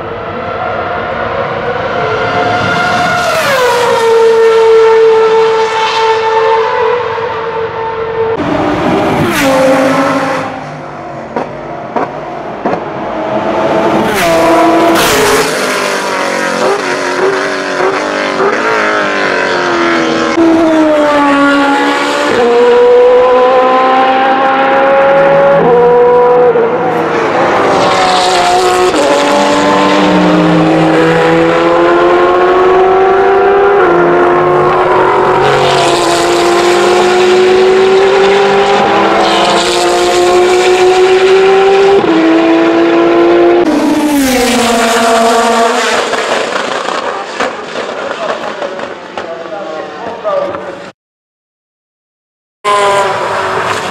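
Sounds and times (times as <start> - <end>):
racing car engines at full throttle: 0.0 - 50.9, 52.7 - 53.9.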